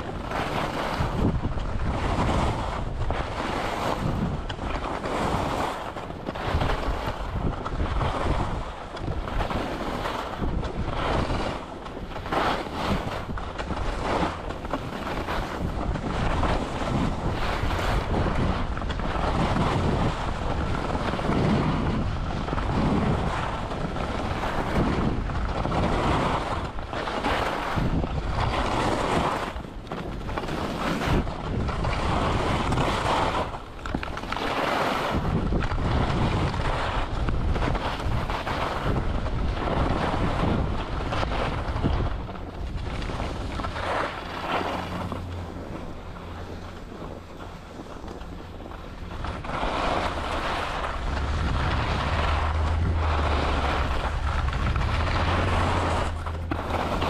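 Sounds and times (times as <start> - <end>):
skis scraping on snow: 0.0 - 57.0
wind buffeting microphone: 0.0 - 57.0.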